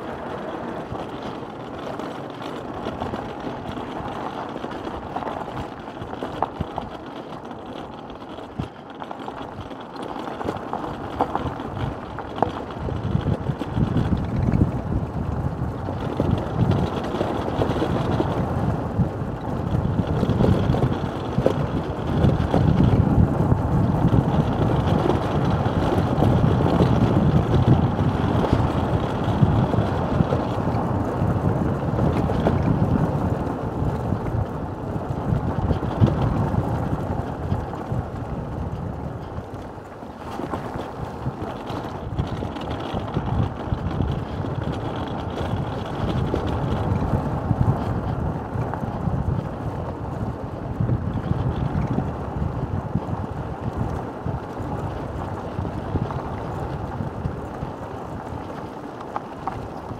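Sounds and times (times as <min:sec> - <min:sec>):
tyres rolling on gravel: 0:00.0 - 0:59.9
wind buffeting microphone: 0:00.0 - 0:59.9.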